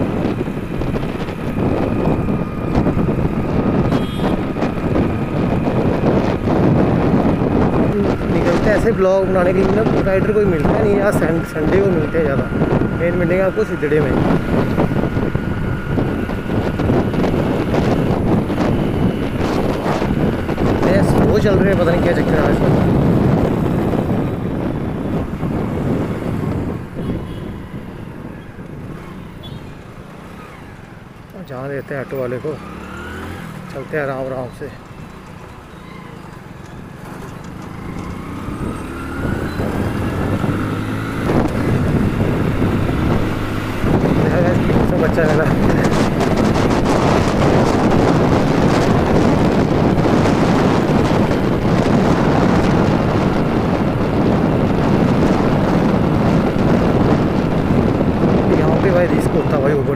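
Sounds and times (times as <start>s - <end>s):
motorcycle engine running: 0.0s - 30.9s, 32.0s - 59.6s
road noise: 0.0s - 59.9s
wind buffeting microphone: 0.0s - 59.9s.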